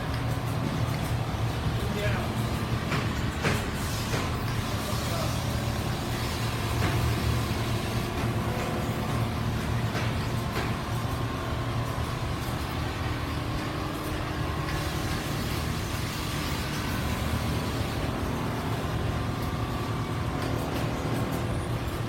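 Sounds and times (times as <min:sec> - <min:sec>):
quilting machines humming: 0:00.0 - 0:22.0.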